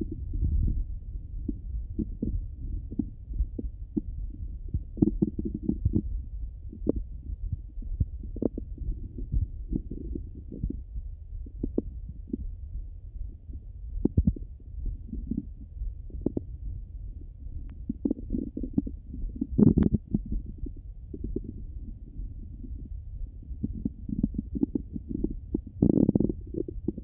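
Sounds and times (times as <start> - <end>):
muffled low rumble: 0.0 - 27.0
stomach gurgles clicks and pops: 0.0 - 27.0.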